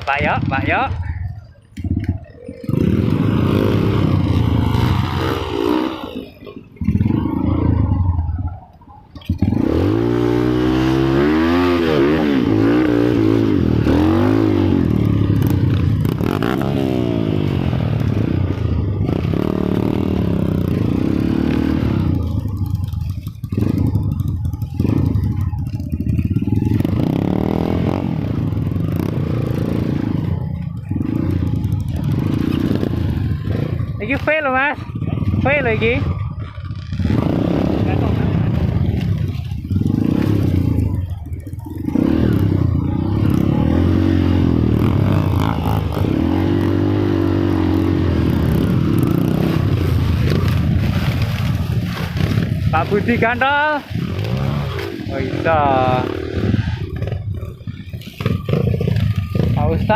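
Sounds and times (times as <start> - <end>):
engine revving: 1.8 - 8.0, 9.3 - 59.9.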